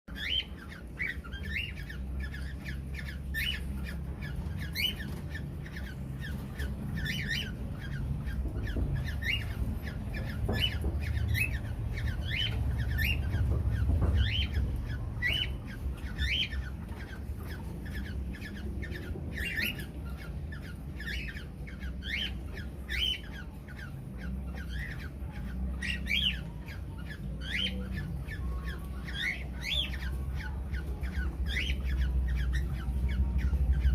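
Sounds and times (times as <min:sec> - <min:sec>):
parrots calling: 0:00.1 - 0:33.9.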